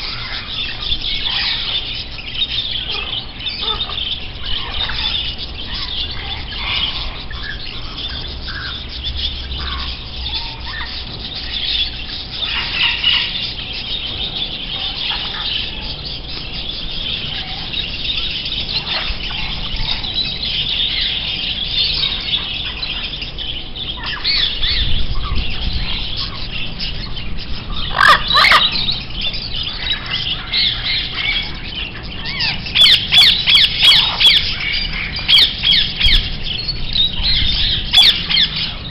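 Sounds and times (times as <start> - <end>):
birds chirping and squawking: 0.0 - 38.9
sharp bird calls: 0.0 - 38.9.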